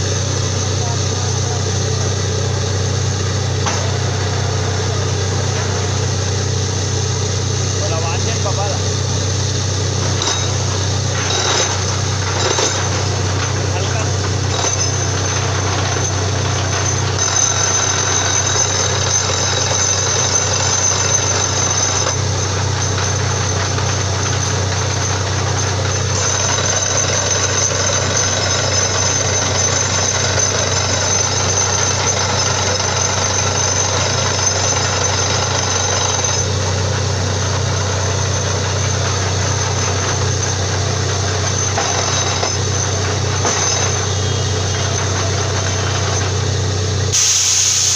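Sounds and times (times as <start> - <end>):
drilling rig droning: 0.0 - 47.9
high machine whine: 0.0 - 47.9.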